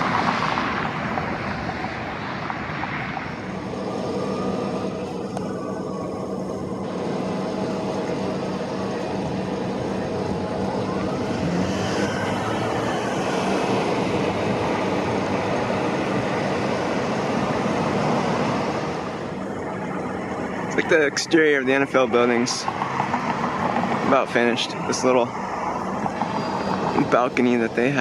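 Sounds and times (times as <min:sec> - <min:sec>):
vehicle engine drone: 0:00.0 - 0:28.0.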